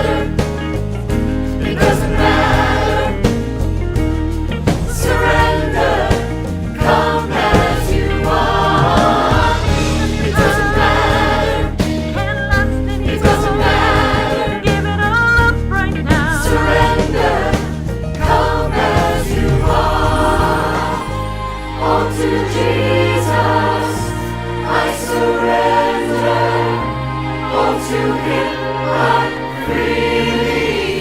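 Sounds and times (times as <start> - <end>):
choir singing: 0.0 - 0.8, 1.4 - 3.8, 4.7 - 12.1, 12.9 - 14.8, 16.1 - 31.0
instrumental backing with bass line: 0.0 - 31.0.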